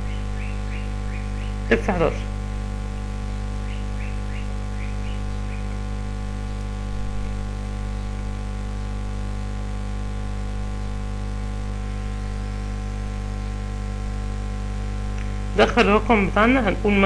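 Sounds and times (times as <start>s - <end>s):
electrical mains hum: 0.0s - 17.0s
recording hiss: 0.0s - 17.0s.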